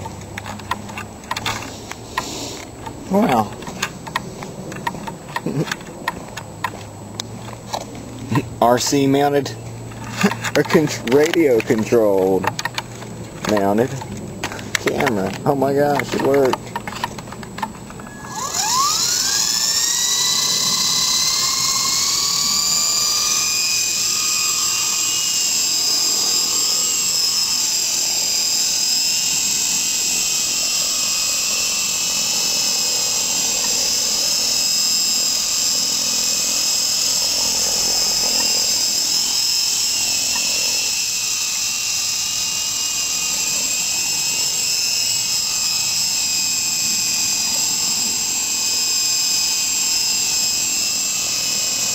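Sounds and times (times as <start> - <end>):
rc helicopter motor whine: 0.0 - 51.9.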